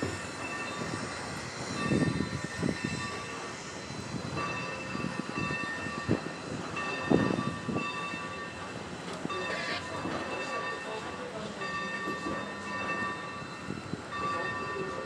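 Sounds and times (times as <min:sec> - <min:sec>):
train rolling on rails: 0:00.0 - 0:15.0
wheels clunking on rail joints: 0:00.0 - 0:15.0.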